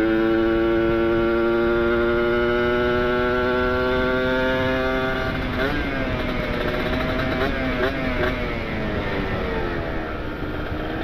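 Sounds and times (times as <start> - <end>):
motorcycle engine while riding: 0.0 - 11.0.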